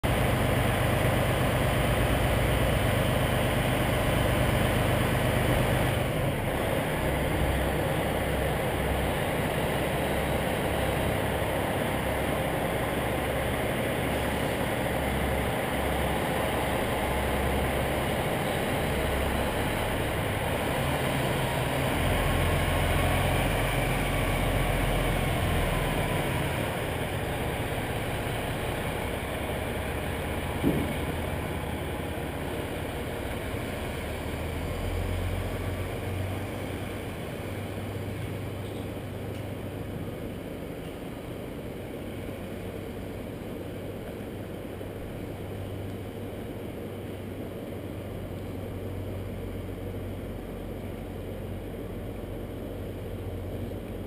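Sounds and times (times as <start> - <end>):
diesel truck engine rumbling: 0.0 - 54.0.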